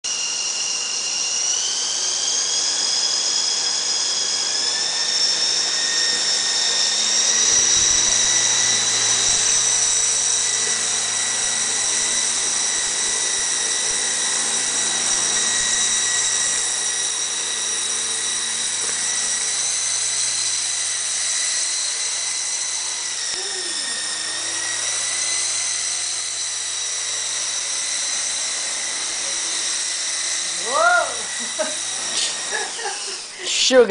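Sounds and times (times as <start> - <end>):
model helicopter rotor whine: 0.0 - 33.9.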